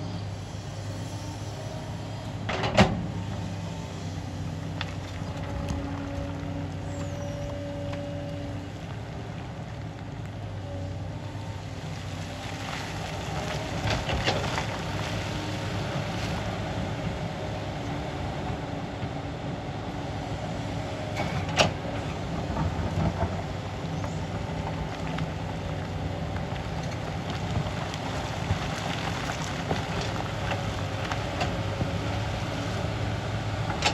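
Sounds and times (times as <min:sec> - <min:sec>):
excavator engine and hydraulics: 0:00.0 - 0:33.9.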